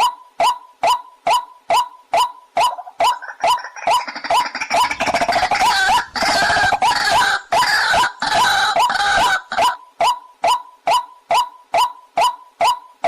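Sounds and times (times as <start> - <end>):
waterhen calls: 1.3 - 12.8.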